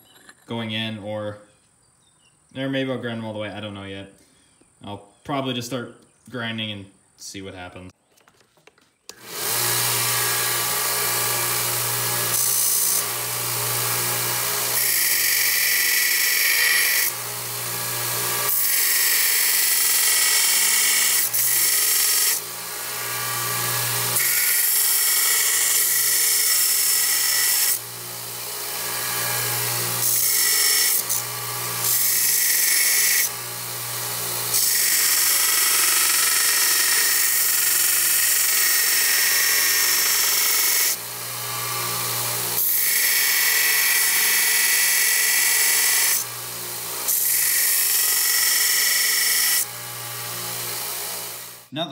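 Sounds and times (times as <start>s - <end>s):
belt sander motor hum: 9.1s - 51.7s.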